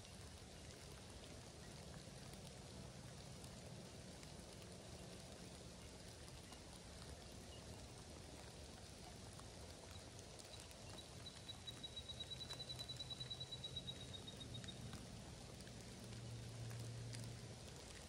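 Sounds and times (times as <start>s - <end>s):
light rain: 0.0s - 18.0s.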